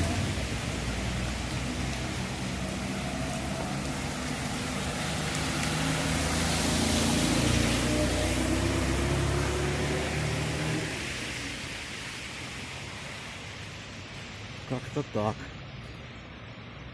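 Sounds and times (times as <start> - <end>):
car passing: 0.0 - 16.9
rain falling: 0.0 - 16.9.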